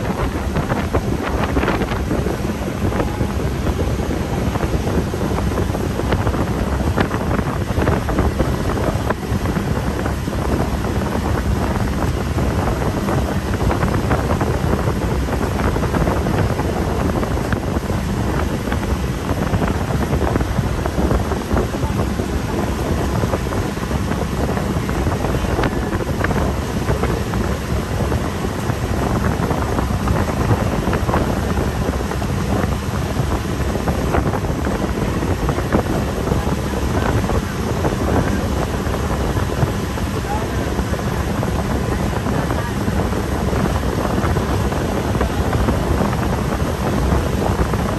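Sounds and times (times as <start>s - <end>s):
motorboat engine drone: 0.0s - 47.9s
water rushing past hull: 0.0s - 47.9s
wind buffeting microphone: 0.0s - 47.9s.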